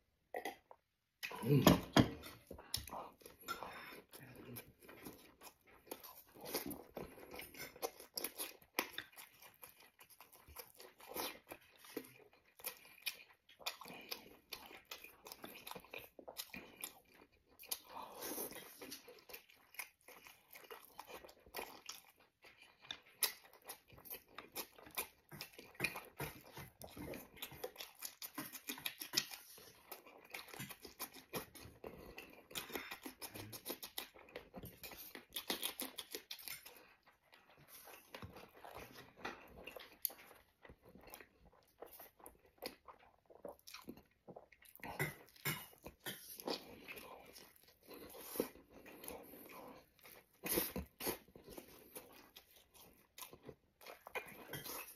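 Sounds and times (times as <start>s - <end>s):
person chewing with mouth open: 0.3s - 54.9s.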